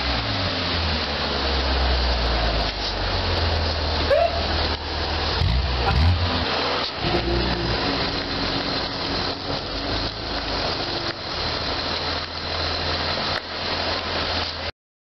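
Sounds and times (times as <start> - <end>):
car engine driving slowly: 0.0 - 14.7.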